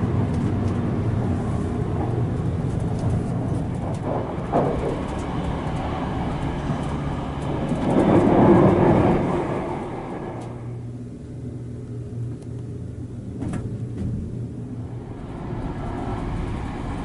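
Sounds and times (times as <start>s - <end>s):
train wheels rumbling on track: 0.0s - 11.3s, 13.4s - 17.0s.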